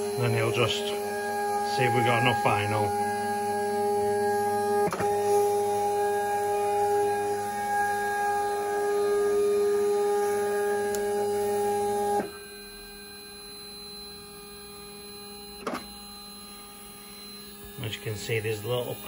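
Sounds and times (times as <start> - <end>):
cutting head whirring: 0.0 - 19.0
vinyl cutter motors whining: 0.0 - 19.0.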